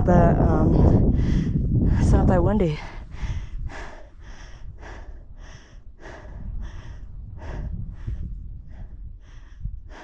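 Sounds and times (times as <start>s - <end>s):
person breathing hard: 0.7s - 2.1s, 2.8s - 10.0s.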